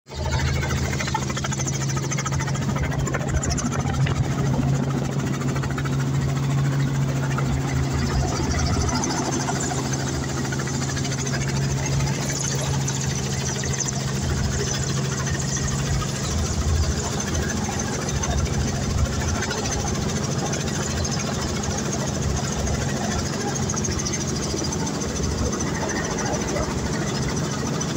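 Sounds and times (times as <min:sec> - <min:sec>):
helicopter engine and rotor noise: 0:00.1 - 0:27.9
low pulsing rotor beat: 0:00.1 - 0:27.9.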